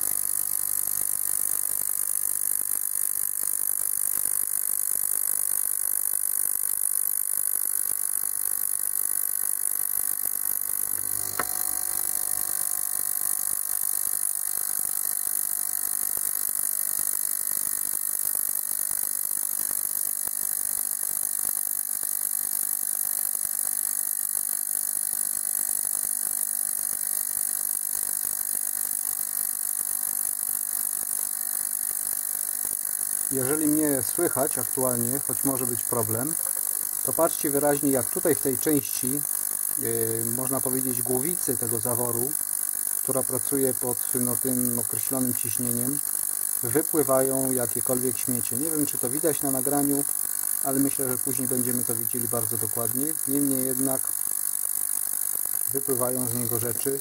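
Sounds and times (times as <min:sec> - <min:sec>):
ultrasonic cleaning bath hiss-buzz: 0:00.0 - 0:57.0.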